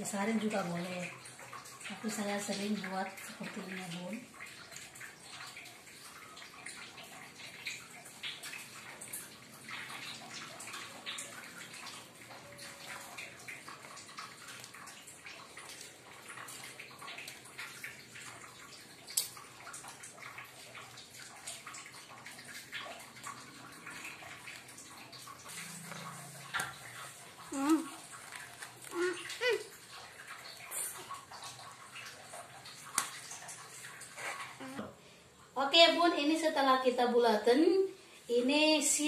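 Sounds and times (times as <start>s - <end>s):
small water splashes: 0.0s - 35.5s.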